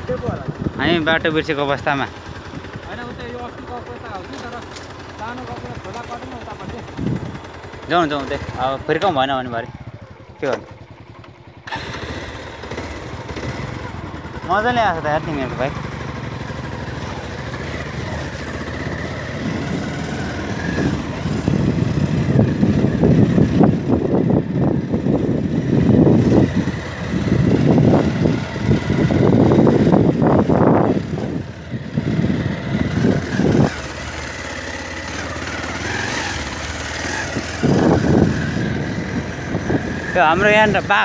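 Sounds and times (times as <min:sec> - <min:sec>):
motorcycle engine rumbling: 0:00.0 - 0:41.0.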